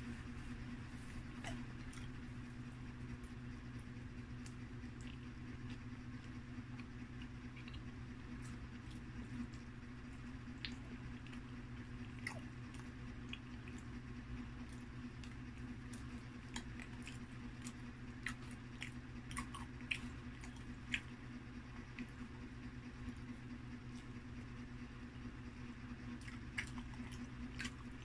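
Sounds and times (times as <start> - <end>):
chewing with wet mouth smacks: 0.0 - 28.0
low hum: 0.0 - 28.0.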